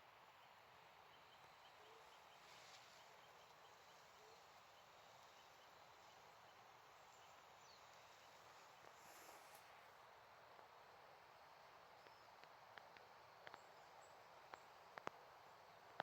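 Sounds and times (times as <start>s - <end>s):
soft outdoor ambient wash: 0.0s - 16.0s.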